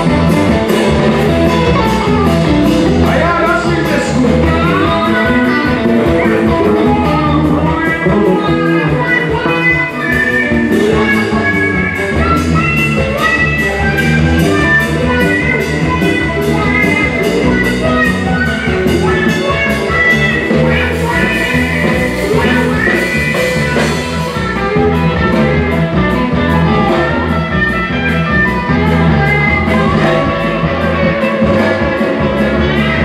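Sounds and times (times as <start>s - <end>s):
bass guitar: 0.0s - 33.0s
drums keeping a steady beat: 0.0s - 33.0s
lap steel guitar sliding notes: 0.0s - 33.0s.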